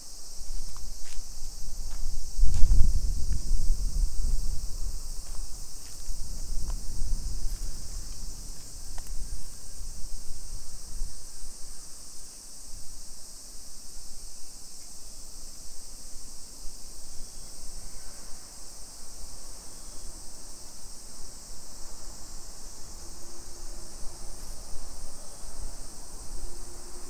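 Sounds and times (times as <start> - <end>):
cicadas droning: 0.0 - 27.0.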